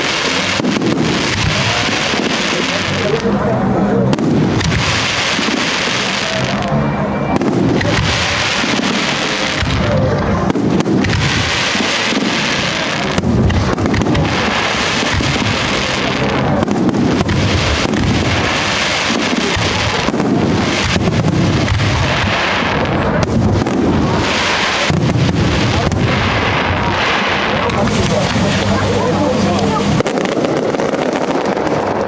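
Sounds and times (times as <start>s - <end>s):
fireworks booming and crackling: 0.0s - 32.0s.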